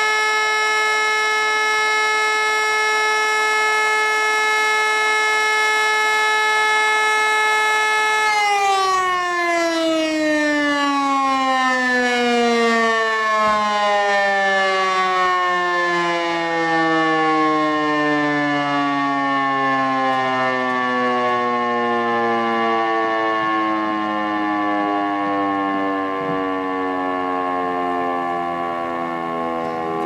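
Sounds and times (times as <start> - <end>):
alarm siren winding down: 0.0 - 30.0
fainter lower siren tone: 0.0 - 30.0.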